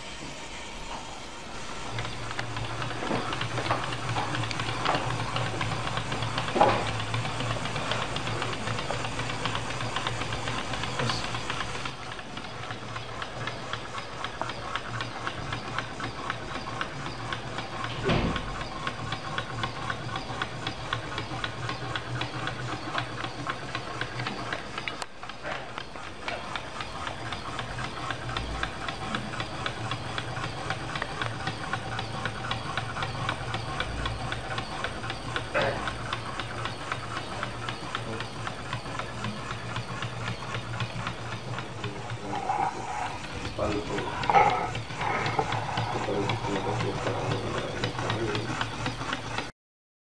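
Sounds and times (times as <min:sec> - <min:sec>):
small geared motor humming: 0:00.0 - 0:49.5
rapid clicking of plastic gears: 0:01.7 - 0:49.5.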